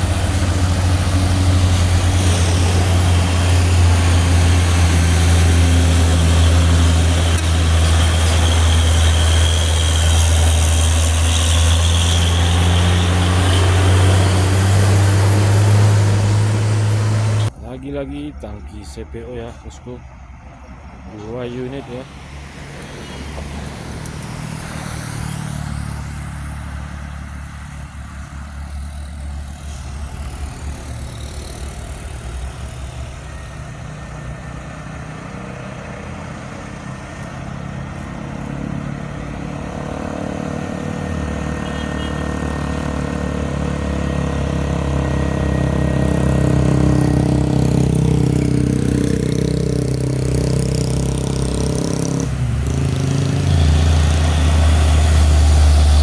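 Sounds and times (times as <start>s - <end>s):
diesel truck engines climbing: 0.0s - 56.0s.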